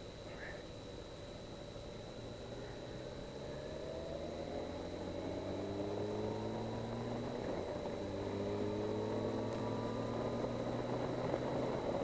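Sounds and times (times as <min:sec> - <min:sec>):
motorcycle engine accelerating: 0:02.1 - 0:12.0.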